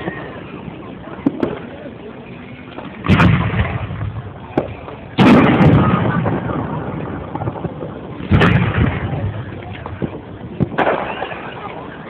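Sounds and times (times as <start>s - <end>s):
fireworks booms: 1.1s - 1.8s, 2.8s - 12.0s.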